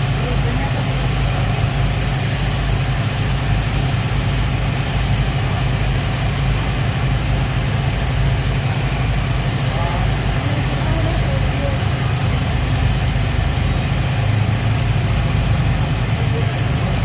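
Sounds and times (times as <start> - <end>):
speedboat engines droning: 0.0 - 17.0.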